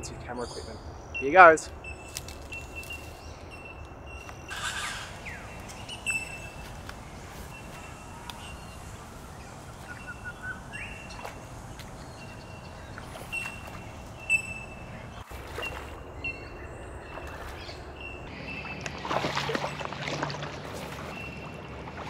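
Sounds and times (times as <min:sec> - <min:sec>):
wild birds calling: 0:00.0 - 0:22.0.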